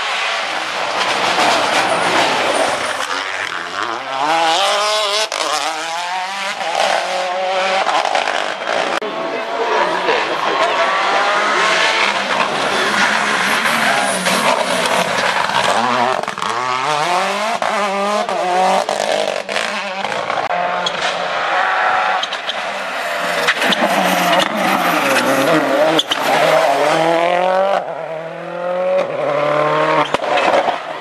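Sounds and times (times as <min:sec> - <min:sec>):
rally car engine accelerating: 0:00.3 - 0:31.0.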